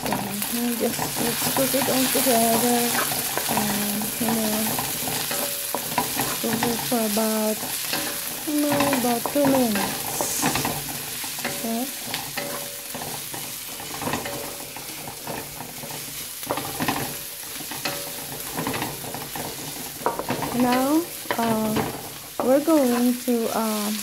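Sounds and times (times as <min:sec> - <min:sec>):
food sizzling in oil: 0:00.0 - 0:24.0
spatula scraping and tapping pan: 0:00.0 - 0:24.0.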